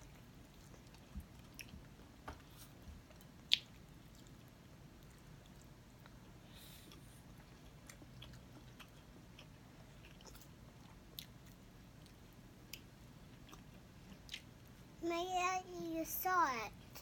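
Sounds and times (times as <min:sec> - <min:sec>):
close-up chewing: 0:00.0 - 0:14.7
faint low hum: 0:00.0 - 0:17.0.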